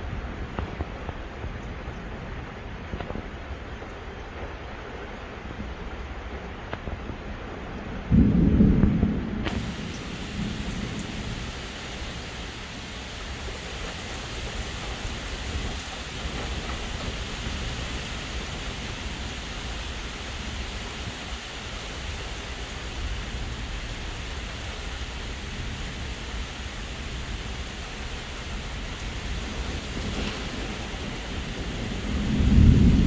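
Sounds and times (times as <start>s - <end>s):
low thunder rumble: 0.0s - 33.0s
steady rain falling: 0.0s - 33.0s.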